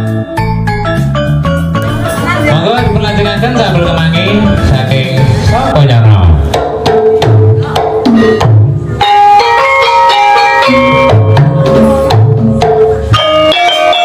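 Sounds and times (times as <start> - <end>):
metallophones ringing: 0.0 - 6.1, 8.1 - 14.0.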